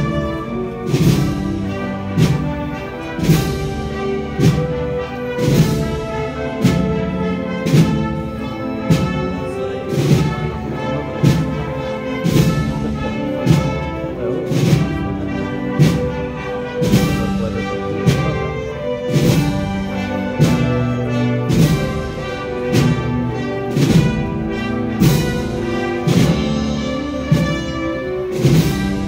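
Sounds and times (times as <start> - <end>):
percussion strokes: 0.0 - 29.0
wind band playing slow march: 0.0 - 29.0.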